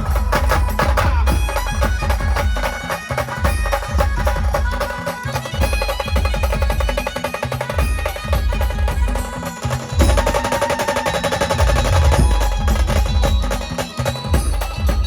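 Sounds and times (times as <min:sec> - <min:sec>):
fast drumming: 0:00.0 - 0:15.0.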